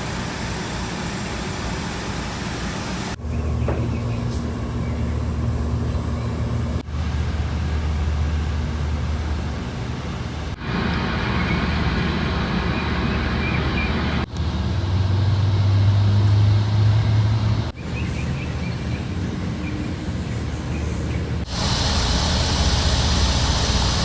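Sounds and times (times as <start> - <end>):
low machinery hum: 0.0 - 24.0.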